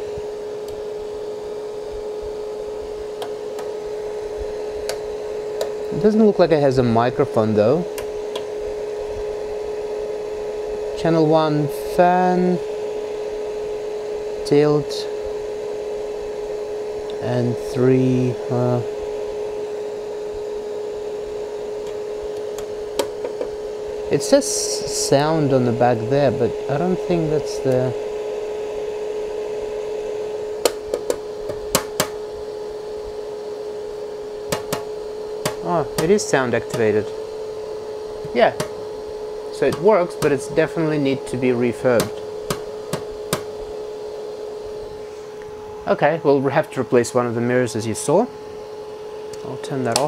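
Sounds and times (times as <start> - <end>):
cooling fan blowing: 0.0 - 50.0
light machine humming: 0.0 - 50.0.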